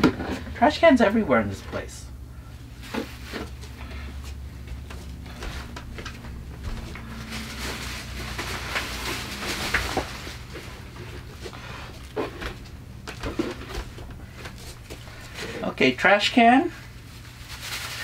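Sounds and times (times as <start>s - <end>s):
steady low hum: 0.0s - 18.0s
plastic bags crinkling and rustling: 2.6s - 18.0s.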